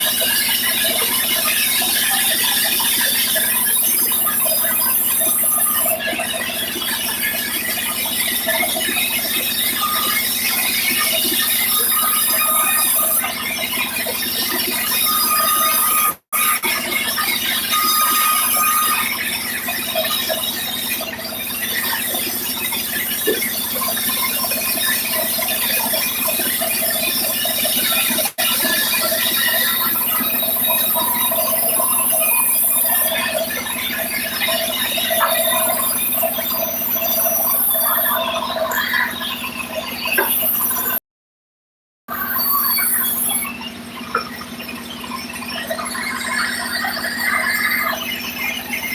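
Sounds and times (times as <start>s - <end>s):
sawmill saw cutting timber: 0.0s - 39.2s, 42.1s - 43.6s.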